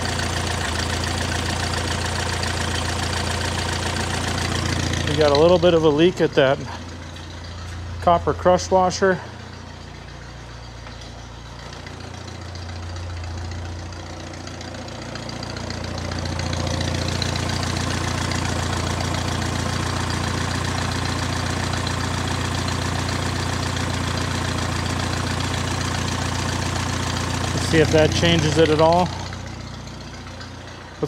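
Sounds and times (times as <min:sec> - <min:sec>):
small tractor engine running: 0:00.0 - 0:31.0.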